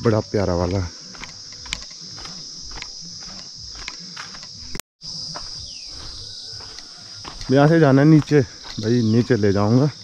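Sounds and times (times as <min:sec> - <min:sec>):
footsteps on paved path: 0:00.0 - 0:10.0
high-pitched insect chorus: 0:00.0 - 0:10.0.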